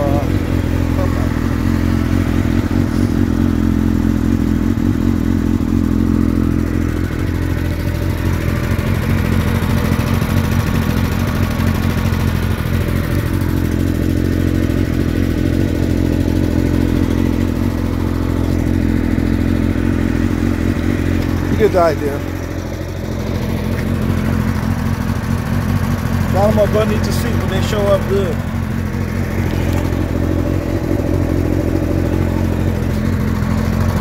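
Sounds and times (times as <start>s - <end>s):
small engine idling: 0.0s - 34.0s.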